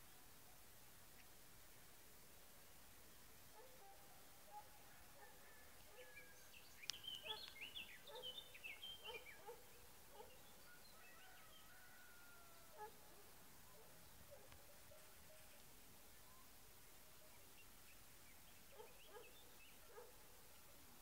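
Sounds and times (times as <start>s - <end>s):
songbird singing: 3.0s - 21.0s.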